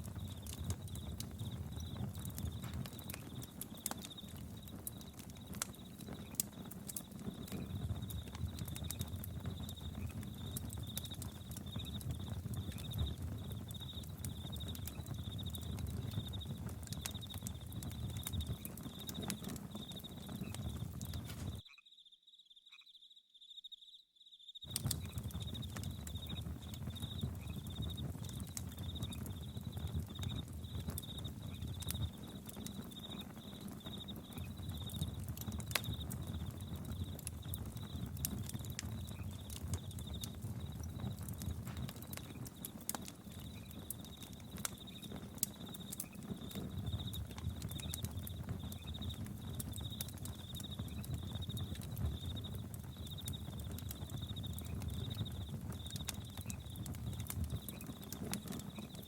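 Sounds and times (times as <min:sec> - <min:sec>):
campfire crackling and popping: 0:00.0 - 0:21.6, 0:24.6 - 0:59.0
crickets chirping: 0:00.1 - 0:59.0.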